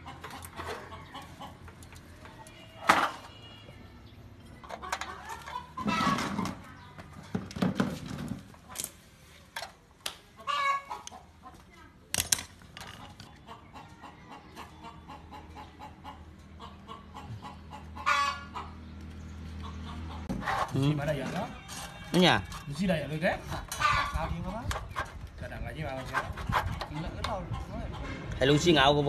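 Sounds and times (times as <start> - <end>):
chickens clucking: 0.0 - 3.2, 4.4 - 11.9, 12.8 - 28.9.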